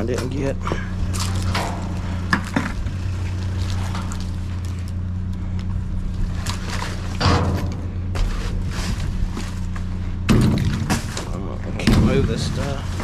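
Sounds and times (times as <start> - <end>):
low machine hum: 0.0 - 13.0
rummaging through junk: 0.0 - 13.0.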